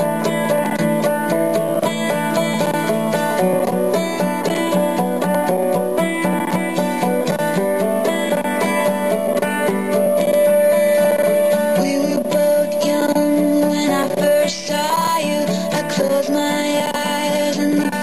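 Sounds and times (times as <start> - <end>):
upbeat plucked string music: 0.0 - 18.0.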